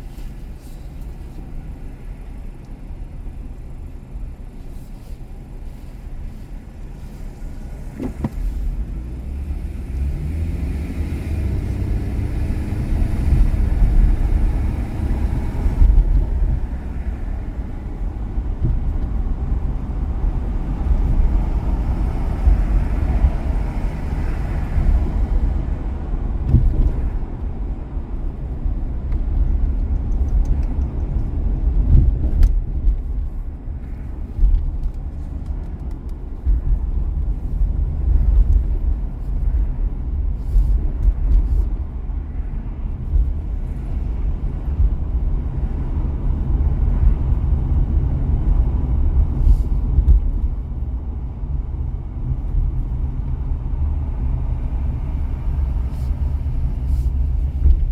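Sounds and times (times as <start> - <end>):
car engine and tyre noise: 0.0 - 57.9.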